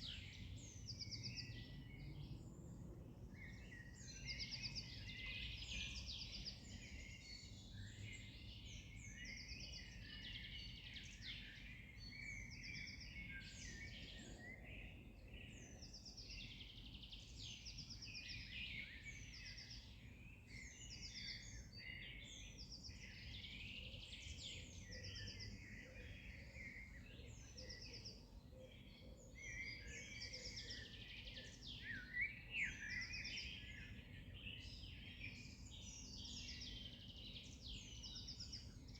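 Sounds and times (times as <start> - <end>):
songbirds chorus: 0.0 - 38.9.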